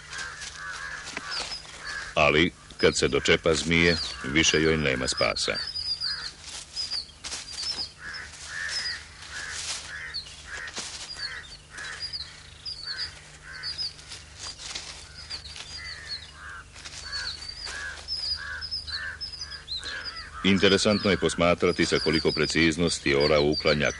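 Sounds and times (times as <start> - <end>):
birds calling harsh notes: 0.0 - 23.9
steady low hum: 0.0 - 23.9.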